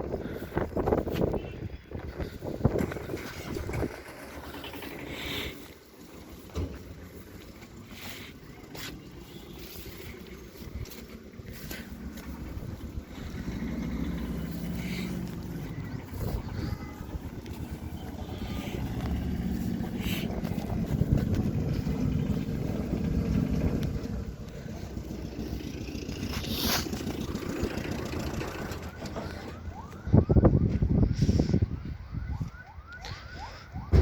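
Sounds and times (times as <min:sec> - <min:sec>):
tractor diesel engine rumbling: 0:00.0 - 0:32.3.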